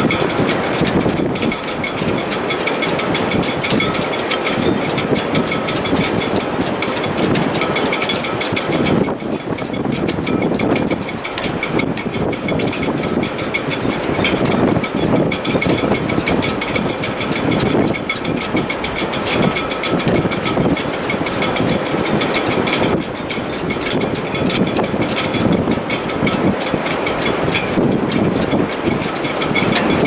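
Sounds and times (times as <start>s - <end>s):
fine rapid ticking: 0.0s - 30.0s
strong wind roaring: 0.0s - 30.0s
wires whistling in wind: 0.0s - 30.0s.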